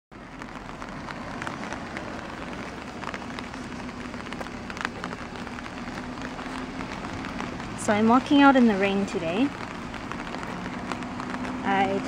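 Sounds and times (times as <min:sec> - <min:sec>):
rain pattering on an umbrella: 0:00.1 - 0:12.0.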